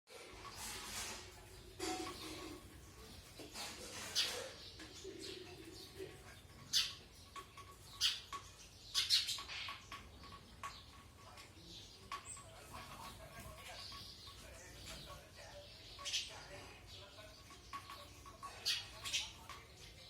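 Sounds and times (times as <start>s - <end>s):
small bird chirping: 0.1s - 20.0s.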